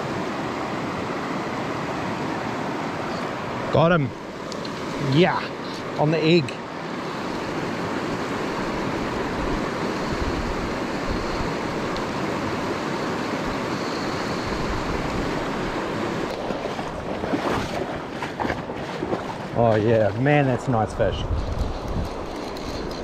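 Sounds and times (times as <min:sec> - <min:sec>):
river rushing over stones: 0:00.0 - 0:20.8.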